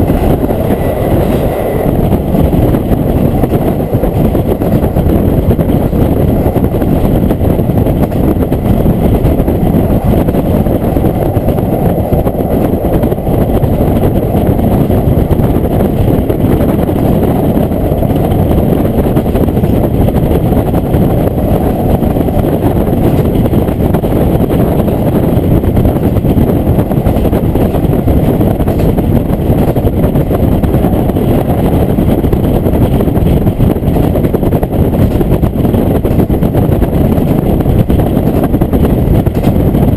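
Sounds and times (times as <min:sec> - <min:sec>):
railcar engine and running rumble: 0:00.0 - 0:39.9.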